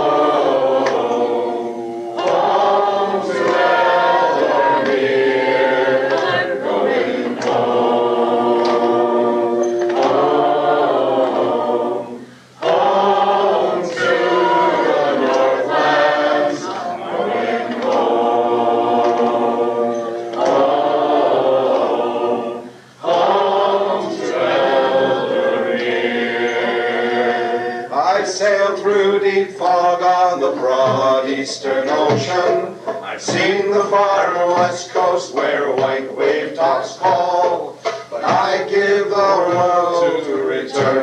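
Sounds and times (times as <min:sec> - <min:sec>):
choir singing a cappella: 0:00.0 - 0:41.0.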